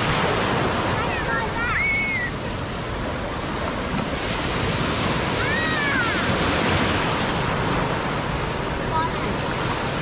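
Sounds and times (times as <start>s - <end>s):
sea surf washing onto beach: 0.0s - 10.0s.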